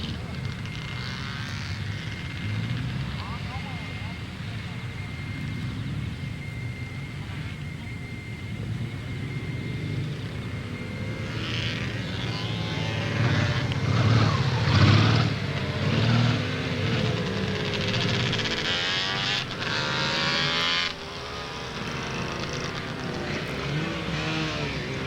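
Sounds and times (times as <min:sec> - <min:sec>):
motorcycles revving past: 0:00.0 - 0:07.6, 0:08.6 - 0:25.0.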